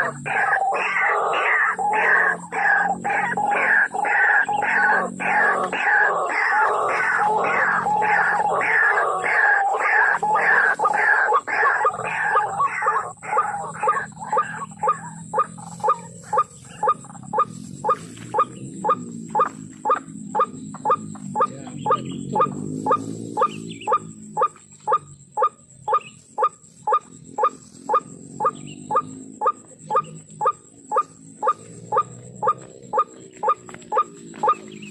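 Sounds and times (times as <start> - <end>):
bird calling repeated kwak: 0.0 - 34.7.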